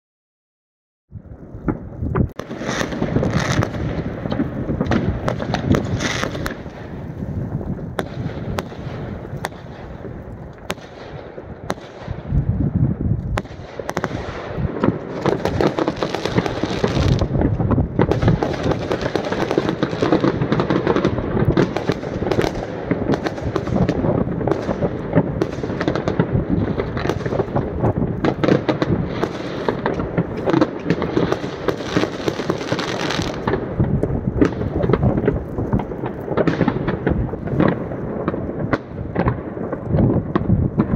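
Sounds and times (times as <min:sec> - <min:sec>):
fireworks bangs and pops: 0:01.1 - 0:40.9.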